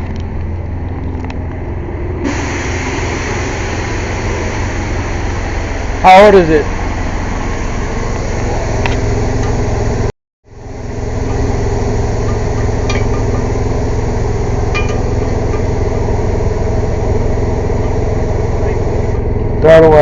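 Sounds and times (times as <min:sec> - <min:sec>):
air compressor running: 0:01.6 - 0:20.0.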